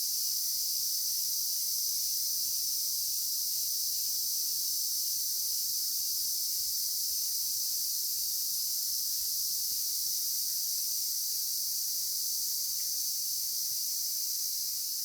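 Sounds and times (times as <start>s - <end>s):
crickets chirping: 0.1s - 15.0s.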